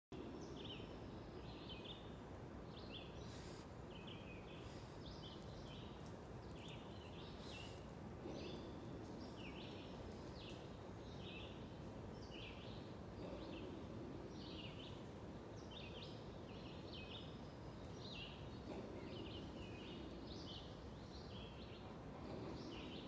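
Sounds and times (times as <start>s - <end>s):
birds chirping: 0.1s - 23.0s
low background noise: 0.1s - 23.0s.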